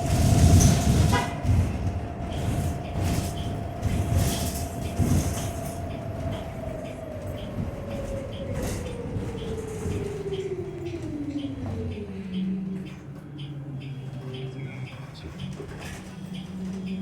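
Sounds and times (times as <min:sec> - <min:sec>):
road rumble: 0:00.0 - 0:17.0.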